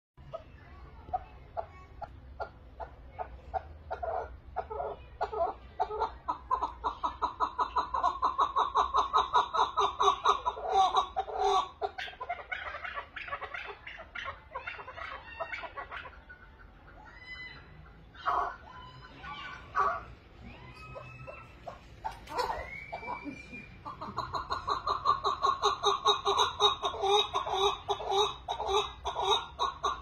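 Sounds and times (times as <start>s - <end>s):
partridge clucking calls: 0.2s - 30.0s.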